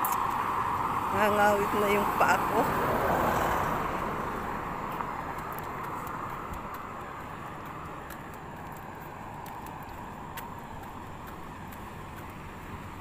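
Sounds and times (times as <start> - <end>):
footsteps on paved road: 0.0 - 13.0
road traffic noise: 0.0 - 13.0.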